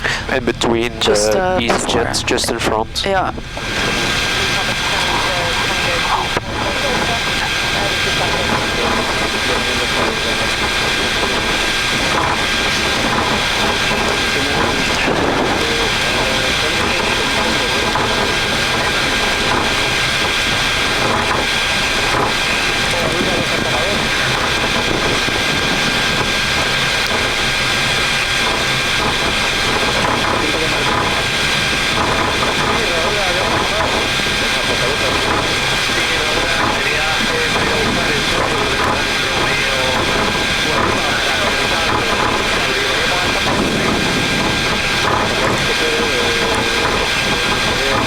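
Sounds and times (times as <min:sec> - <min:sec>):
aircraft engine and air rush: 0:00.0 - 0:48.0
faint high whine: 0:00.0 - 0:48.0.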